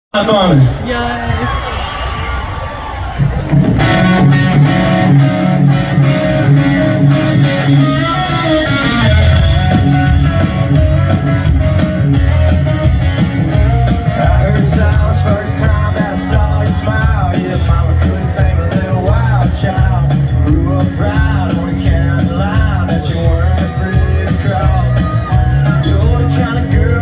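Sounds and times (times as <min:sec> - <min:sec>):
country-rock band playing: 0:01.2 - 0:27.0.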